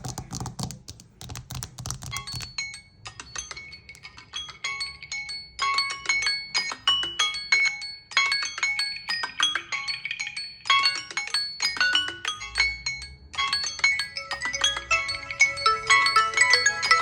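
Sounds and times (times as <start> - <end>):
phone ringtone melody: 2.0 - 17.0.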